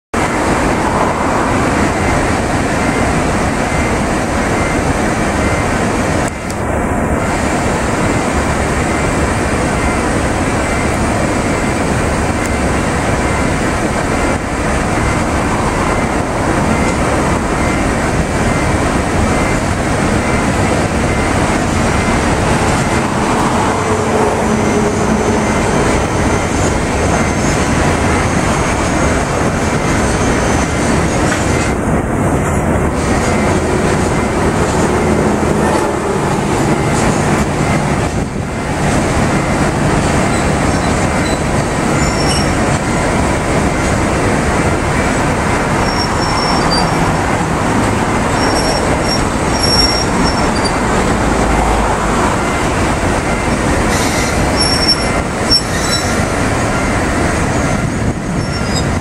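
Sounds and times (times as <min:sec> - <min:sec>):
diesel locomotive engine: 0:00.1 - 0:59.0
freight train wheels on rail: 0:00.1 - 0:59.0.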